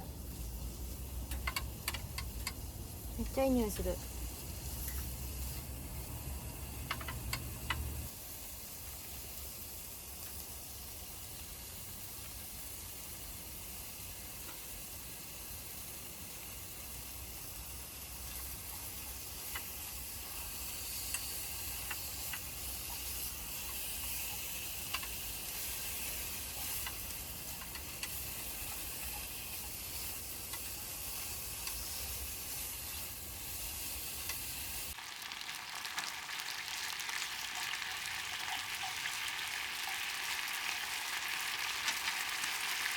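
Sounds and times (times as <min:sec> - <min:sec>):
food sizzling in a pan: 0:00.0 - 0:42.9.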